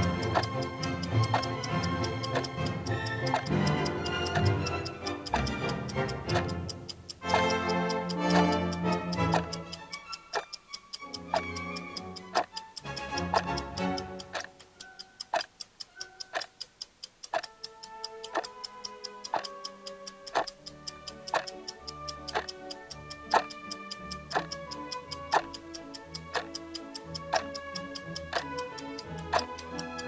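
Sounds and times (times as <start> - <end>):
background music: 0.0 - 16.7, 17.4 - 30.0
clock ticking: 0.0 - 30.0.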